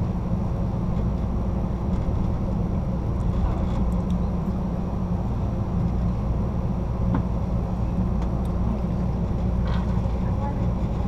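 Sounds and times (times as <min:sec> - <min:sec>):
train car rumbling on rails: 0:00.0 - 0:11.0.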